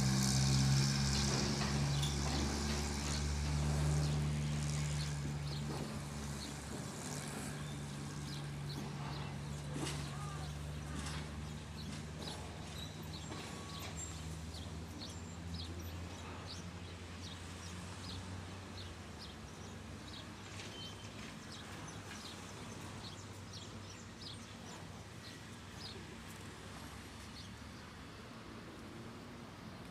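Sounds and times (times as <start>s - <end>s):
low diesel engine hum: 0.0s - 29.9s
outdoor background noise: 0.0s - 29.9s
small birds chirping: 1.1s - 28.0s.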